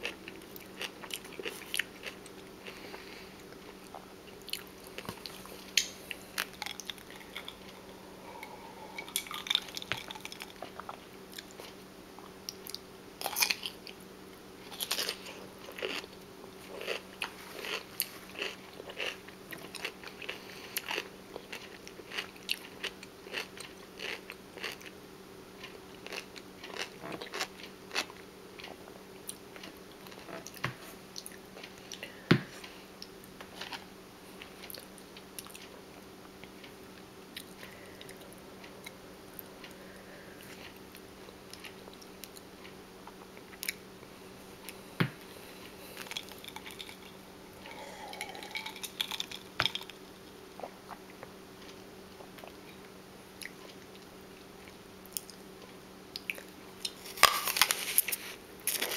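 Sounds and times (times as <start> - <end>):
chewing crunchy food: 0.0 - 14.0, 14.6 - 25.0, 25.6 - 39.8, 40.4 - 43.9, 45.5 - 58.9.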